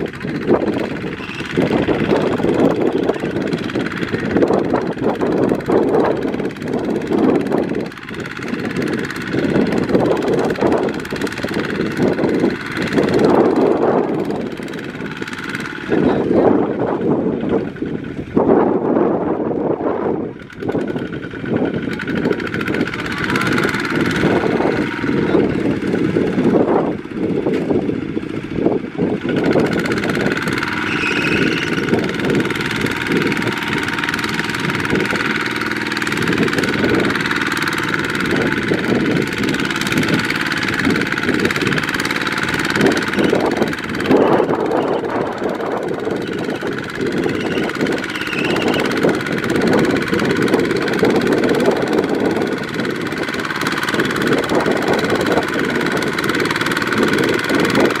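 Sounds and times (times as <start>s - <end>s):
diesel engine knocking under load: 0.0s - 58.0s.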